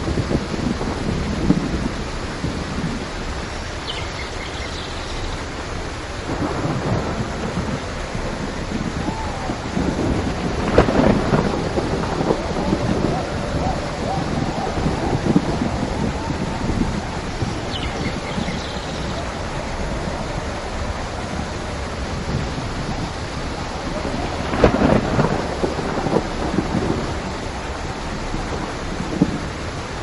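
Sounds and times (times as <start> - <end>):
steady rain: 0.0 - 30.0
thunder rumbling: 0.0 - 30.0.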